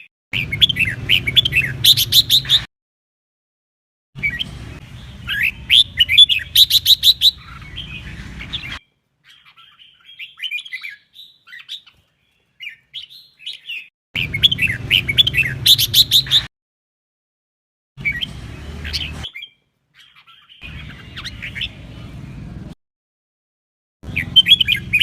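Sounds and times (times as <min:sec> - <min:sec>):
bird chirping and warbling: 0:00.0 - 0:02.7, 0:04.2 - 0:16.5, 0:18.0 - 0:22.5, 0:24.0 - 0:25.0.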